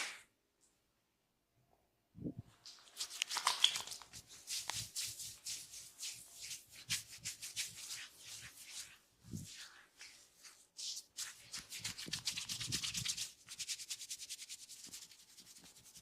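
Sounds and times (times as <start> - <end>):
hands rubbing through hair: 2.6 - 16.0.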